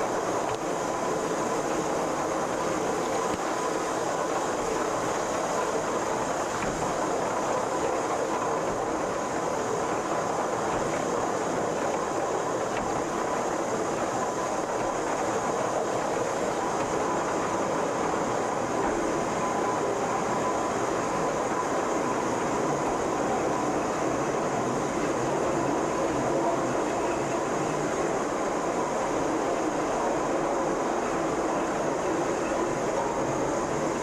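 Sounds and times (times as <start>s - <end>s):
cog railcar rattling and rumbling: 0.0s - 34.0s
faint steady whine: 0.0s - 34.0s.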